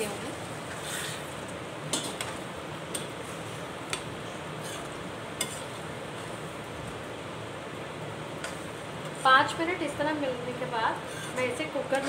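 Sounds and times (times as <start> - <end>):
steady sizzle in a pan: 0.0 - 12.0.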